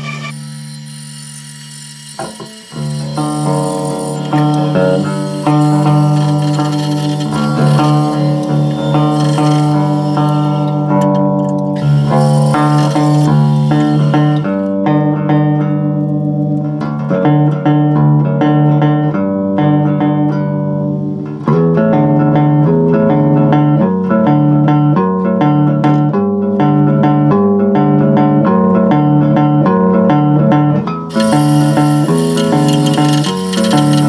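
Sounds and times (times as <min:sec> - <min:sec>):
plucked bass guitar notes: 0:03.0 - 0:34.0.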